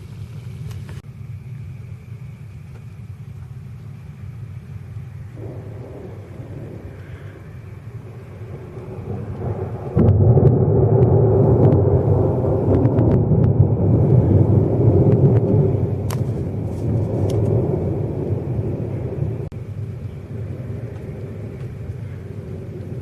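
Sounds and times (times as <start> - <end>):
thunder rumbling: 0.0 - 23.0.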